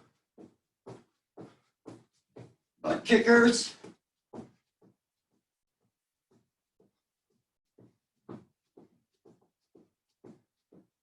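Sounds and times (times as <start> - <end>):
footfalls of running in place: 0.0 - 11.0.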